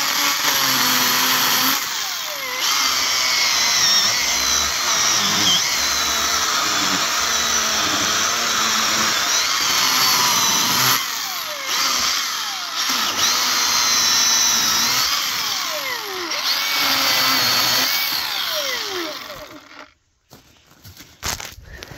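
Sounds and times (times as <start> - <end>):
electric chainsaw cutting wood: 0.0 - 20.0.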